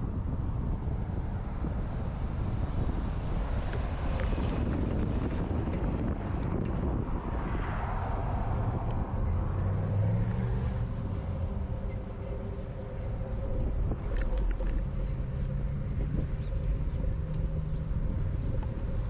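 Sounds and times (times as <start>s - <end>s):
car engines passing: 0.0s - 19.0s
low traffic rumble: 0.0s - 19.0s.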